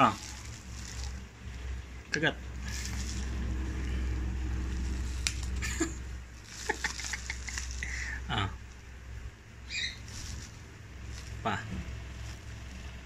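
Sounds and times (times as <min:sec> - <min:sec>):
bubble wrap crackling: 0:00.0 - 0:08.8, 0:09.7 - 0:13.0
steady low hum: 0:00.0 - 0:13.0.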